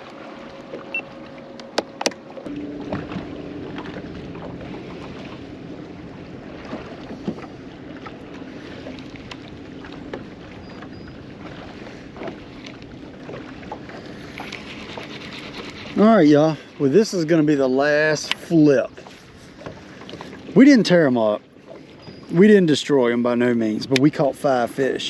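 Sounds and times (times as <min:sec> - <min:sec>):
boat motor humming: 0:00.0 - 0:25.0
light clicks and knocks on boat: 0:00.0 - 0:25.0.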